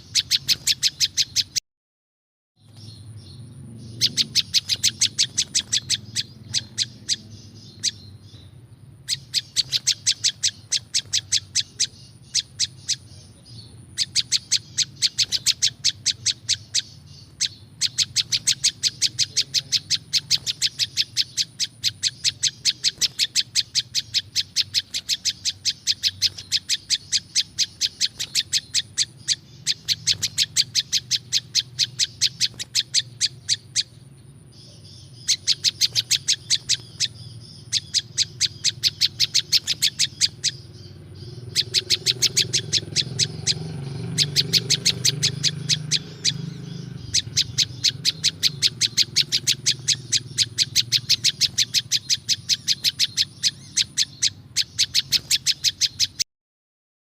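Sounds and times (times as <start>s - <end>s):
songbird high chip notes: 2.6s - 56.2s.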